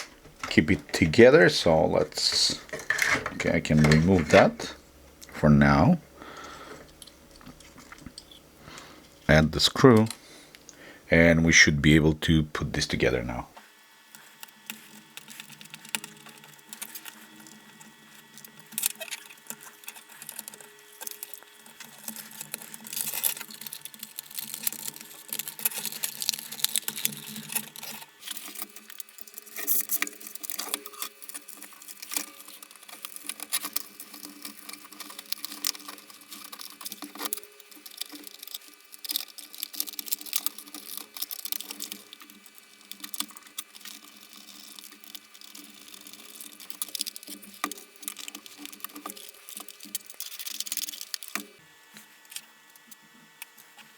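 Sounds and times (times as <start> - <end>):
plastic parts clicking and scraping: 0.0 - 5.5, 6.4 - 10.8, 14.1 - 53.9.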